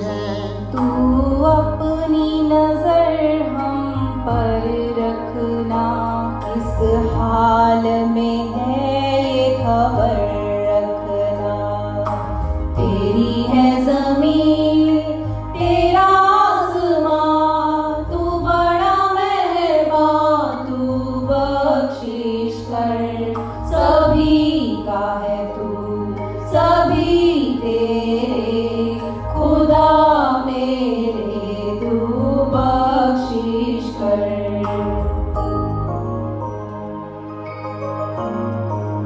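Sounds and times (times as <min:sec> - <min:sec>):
women singing devotional song: 0:00.0 - 0:35.4.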